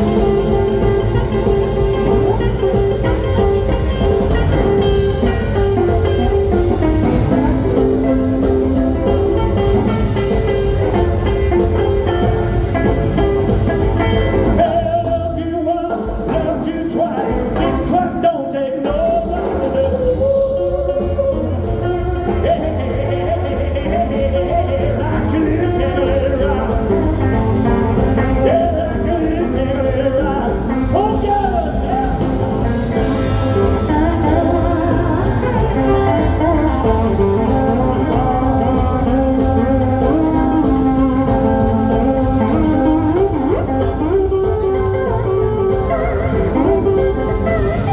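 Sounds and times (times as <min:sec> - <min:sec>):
live rock band playing: 0:00.0 - 0:47.9
person singing: 0:00.0 - 0:47.9.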